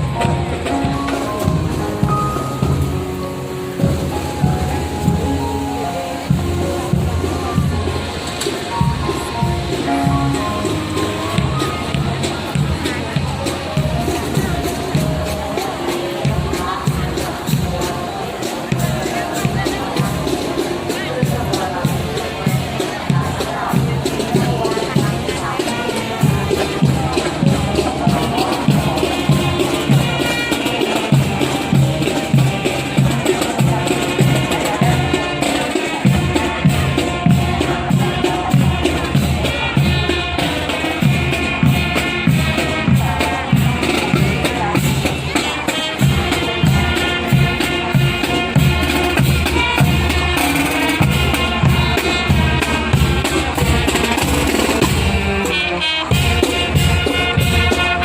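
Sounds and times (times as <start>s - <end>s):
hand percussion: 0.0s - 58.0s
melodic instruments: 0.0s - 58.0s
steady drum beat: 0.0s - 58.0s.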